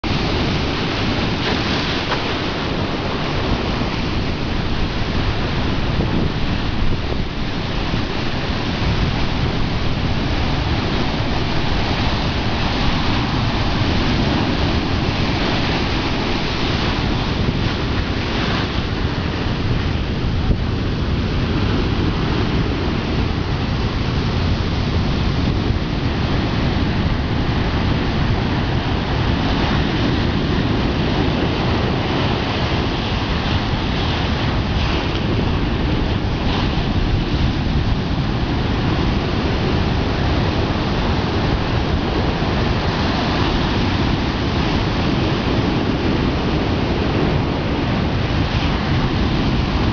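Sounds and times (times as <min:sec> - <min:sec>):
ocean surf breaking: 0:00.0 - 0:49.9
wind buffeting microphone: 0:00.0 - 0:49.9.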